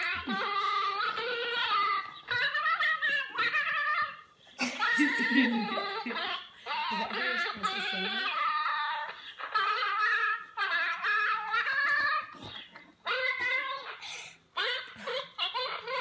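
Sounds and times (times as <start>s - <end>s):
small dog howling: 0.0s - 14.0s.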